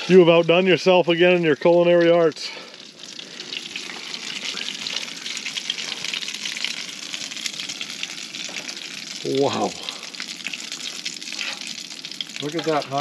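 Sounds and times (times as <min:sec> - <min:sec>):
garlic sizzling in butter: 0:00.0 - 0:13.0.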